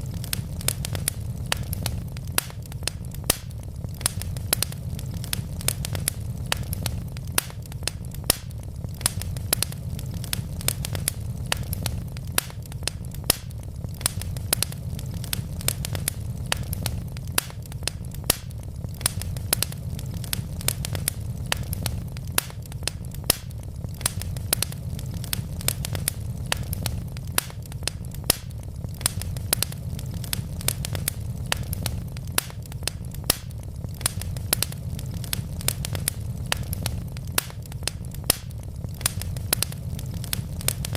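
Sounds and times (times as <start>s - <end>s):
logs burning with crackles: 0.0s - 40.9s.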